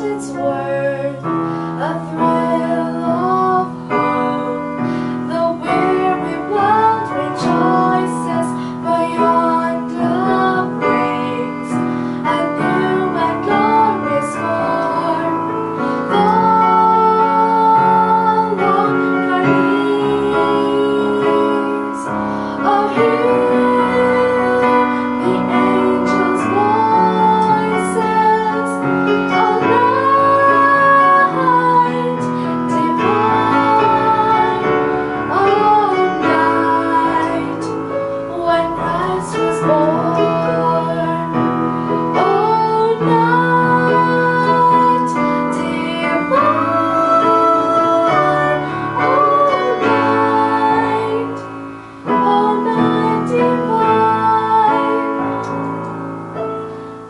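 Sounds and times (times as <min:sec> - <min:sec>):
girl singing: 0:00.0 - 0:55.7
electronic keyboard chords: 0:00.0 - 0:57.0.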